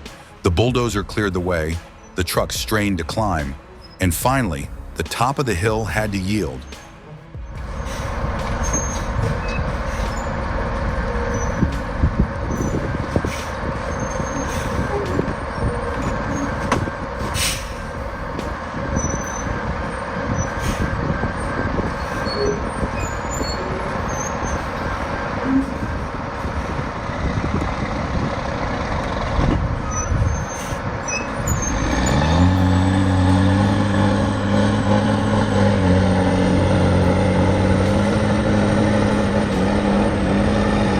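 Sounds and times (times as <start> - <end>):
steady engine note: 0.0 - 40.9
truck engine rumbling: 0.0 - 40.9.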